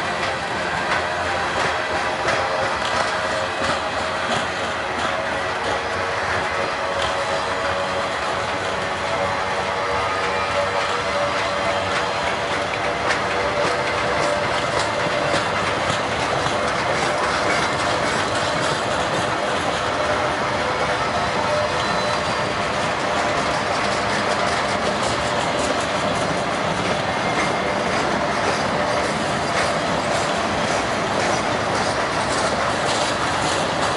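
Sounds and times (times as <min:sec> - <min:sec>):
freight train rumbling past: 0:00.0 - 0:33.9
wheels clicking over rail joints: 0:00.0 - 0:33.9.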